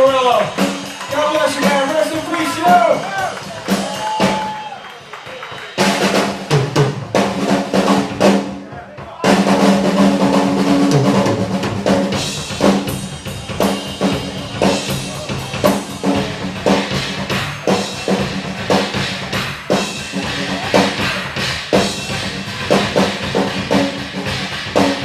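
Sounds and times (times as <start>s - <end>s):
drum kit solo: 0.0s - 25.0s.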